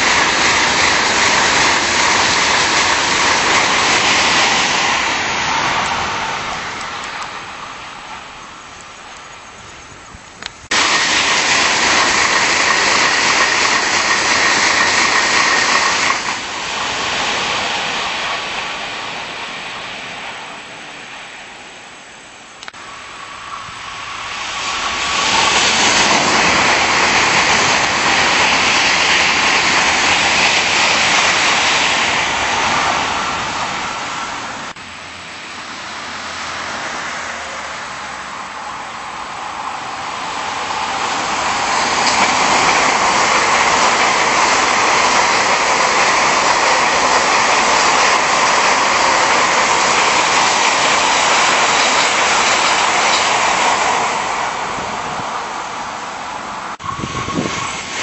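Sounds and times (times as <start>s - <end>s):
train rushing past: 0.0s - 58.0s.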